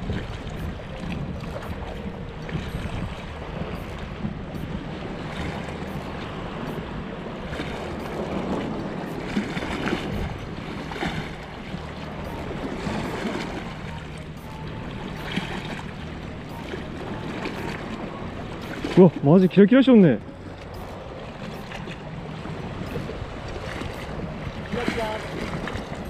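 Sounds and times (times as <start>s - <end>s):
wind on microphone: 0.0s - 19.3s, 20.2s - 26.0s
seawater lapping against rocks: 0.0s - 26.0s.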